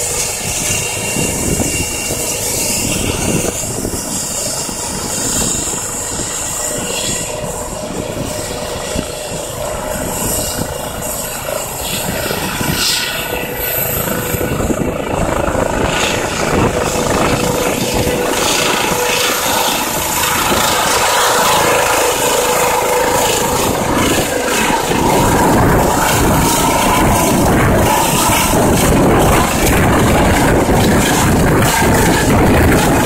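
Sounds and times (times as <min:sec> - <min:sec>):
helicopter turbines and rotor running: 0:00.0 - 0:33.0.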